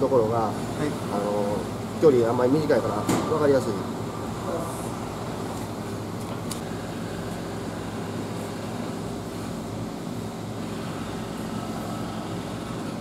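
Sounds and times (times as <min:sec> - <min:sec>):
low hum with hiss: 0:00.0 - 0:13.0.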